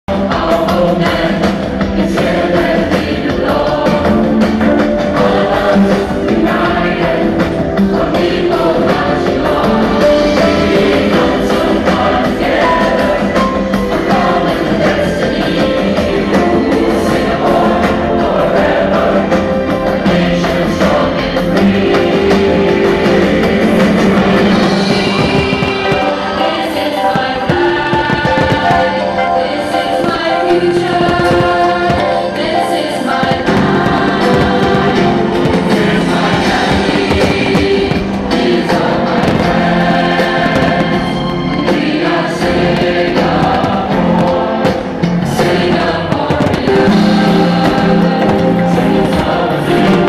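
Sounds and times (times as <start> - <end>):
choir singing with instruments: 0.1 - 50.0.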